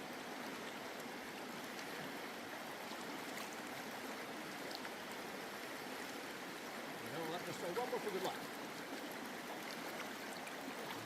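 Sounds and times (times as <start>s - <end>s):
water rushing over rocks: 0.1s - 11.0s.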